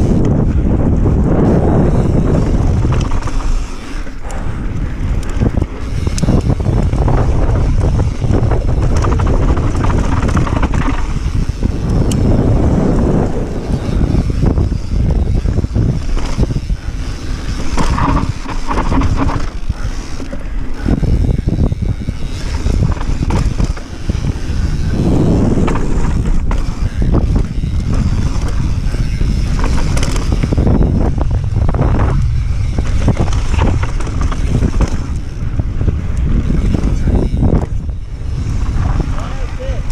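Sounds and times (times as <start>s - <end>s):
bike rattling over bumps: 0.0s - 39.9s
wind rushing on microphone: 0.0s - 39.9s.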